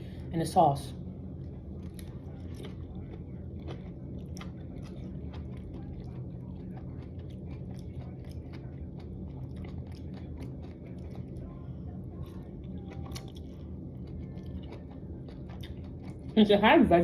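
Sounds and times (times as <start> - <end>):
low hum: 0.0 - 17.0
person chewing food: 1.4 - 16.4.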